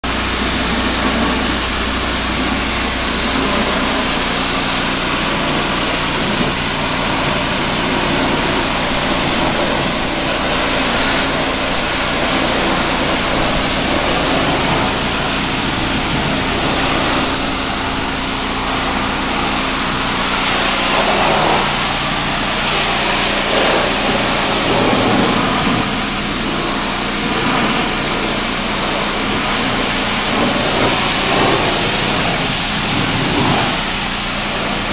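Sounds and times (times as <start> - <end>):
high-pressure water jet hissing: 0.0 - 34.9
pressure washer engine droning: 0.0 - 34.9.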